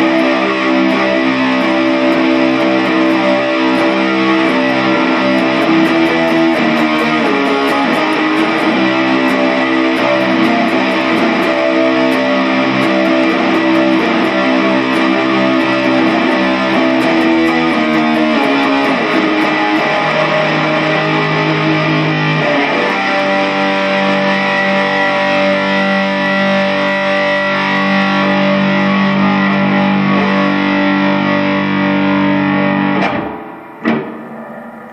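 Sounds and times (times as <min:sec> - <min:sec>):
distorted electric guitar chords: 0:00.0 - 0:34.9.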